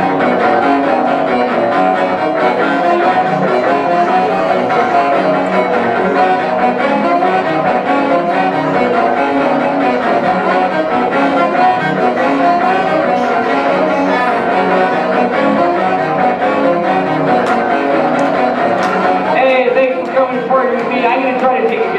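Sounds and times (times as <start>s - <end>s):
instrumental music: 0.0s - 21.9s.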